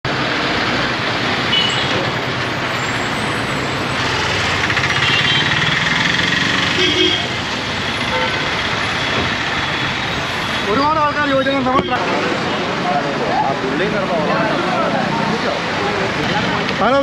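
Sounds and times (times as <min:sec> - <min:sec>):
street traffic: 0:00.0 - 0:17.0
diesel bus engines rumbling: 0:00.1 - 0:17.0.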